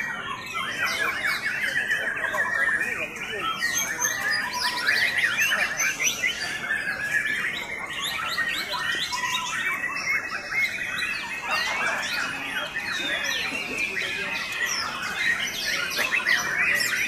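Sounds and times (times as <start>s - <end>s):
birds singing whistles and trills: 0.0s - 17.0s.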